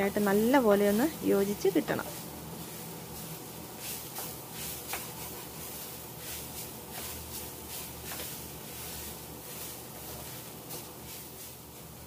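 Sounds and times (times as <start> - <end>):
spatula scraping a pan: 2.0 - 12.0.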